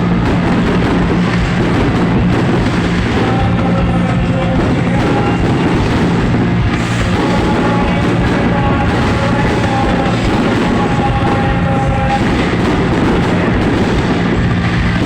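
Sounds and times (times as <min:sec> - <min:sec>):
loud music with held notes: 0:00.0 - 0:15.0.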